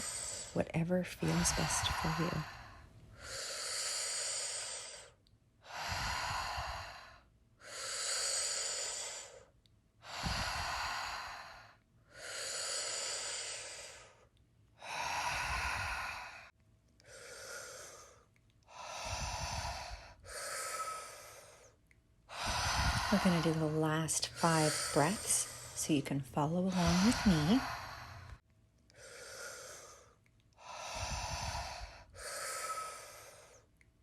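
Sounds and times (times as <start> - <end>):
person breathing deeply: 0.0 - 0.6, 1.2 - 33.7.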